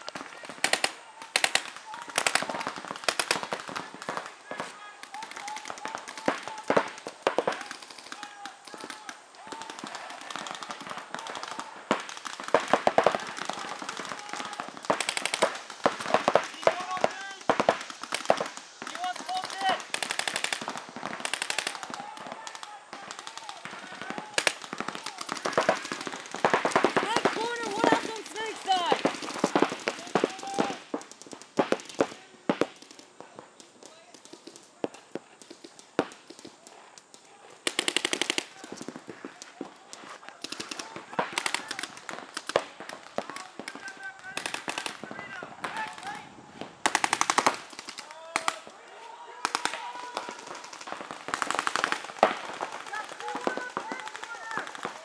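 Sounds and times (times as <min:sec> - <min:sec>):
paintball markers firing: 0:00.0 - 0:46.2, 0:46.8 - 0:48.8.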